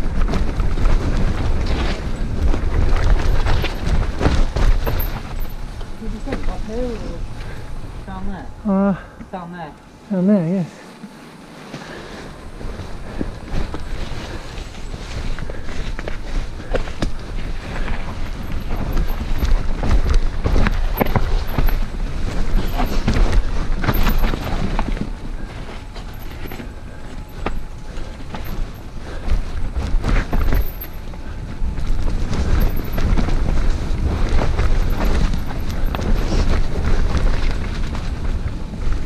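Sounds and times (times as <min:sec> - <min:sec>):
bike knocking and rattling: 0:00.0 - 0:08.5, 0:11.0 - 0:39.0
wind rumbling on microphone: 0:00.0 - 0:09.5, 0:10.9 - 0:39.0.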